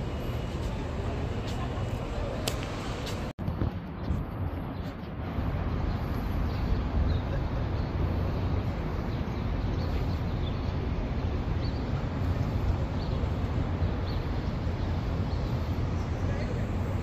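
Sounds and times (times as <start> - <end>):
low rumble of city traffic: 0.0 - 17.0.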